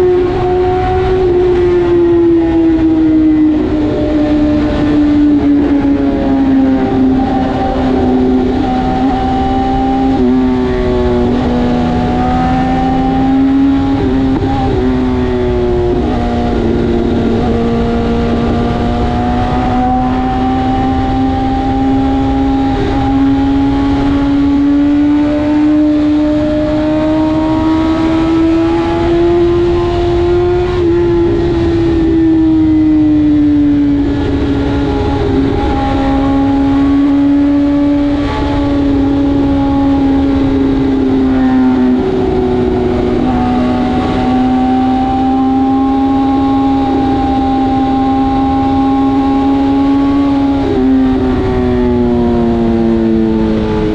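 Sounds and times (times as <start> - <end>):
motorcycle engine at high revs: 0.0 - 53.9
wind noise: 0.0 - 53.9.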